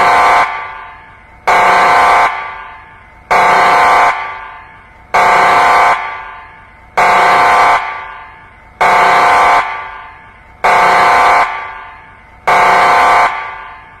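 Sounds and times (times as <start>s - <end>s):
buzzing alarm horn blasts: 0.0s - 14.0s.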